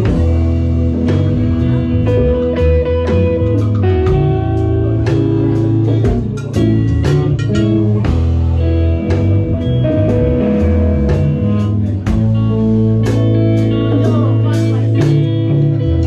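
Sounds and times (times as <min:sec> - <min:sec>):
drum and cymbal hits: 0:00.0 - 0:15.5
electric guitars: 0:00.0 - 0:16.0
live rock band playing: 0:00.0 - 0:16.0.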